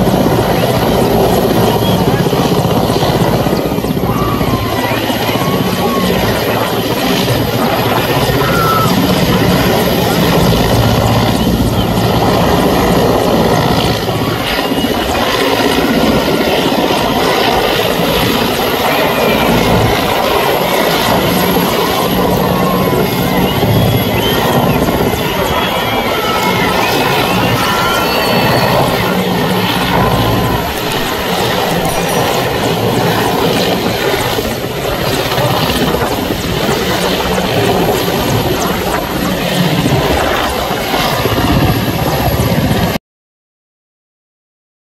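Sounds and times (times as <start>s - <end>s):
helicopter rotor chopping: 0.0s - 43.0s
turbine engine whine: 0.0s - 43.0s.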